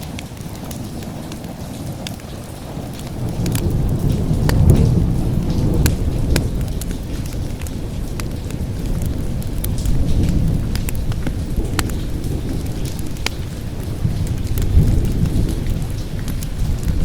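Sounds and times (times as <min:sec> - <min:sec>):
steady rain: 0:00.0 - 0:17.0
thunder rumbling: 0:00.0 - 0:17.0
wood fire crackling: 0:00.0 - 0:17.0.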